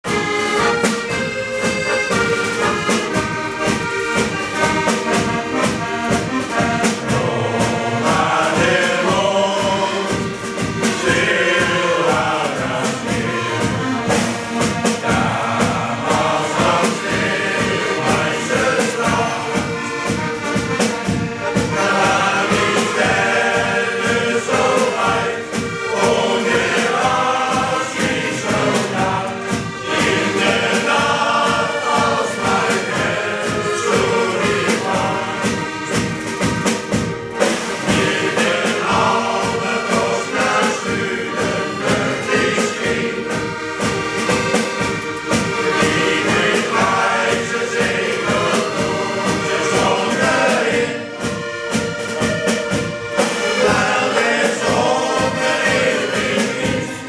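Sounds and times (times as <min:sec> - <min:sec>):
accordion: 0:00.0 - 0:57.0
drum kit beat: 0:00.0 - 0:57.0
men's choir singing a sea shanty: 0:00.0 - 0:57.0.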